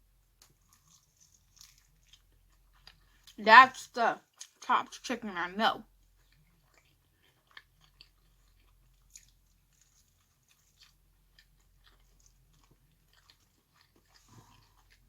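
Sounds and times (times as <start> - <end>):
chewing crunchy food: 0.4 - 3.4, 4.2 - 5.0, 5.8 - 15.0.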